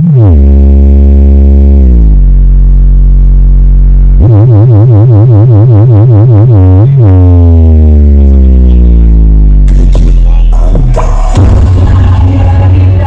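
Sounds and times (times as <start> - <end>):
loud synthesized bass tones: 0.0 - 13.0.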